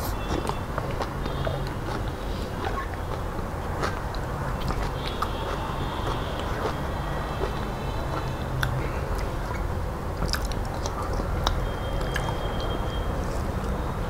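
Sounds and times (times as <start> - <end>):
chewing soft food: 0.0 - 12.8
wet mouth clicks: 0.3 - 12.8.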